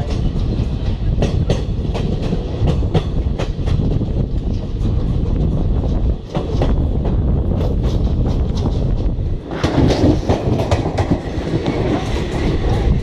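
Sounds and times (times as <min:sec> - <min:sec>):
train wheels rumbling on track: 0:00.0 - 0:13.0
wheels clicking over rail joints: 0:00.0 - 0:13.0.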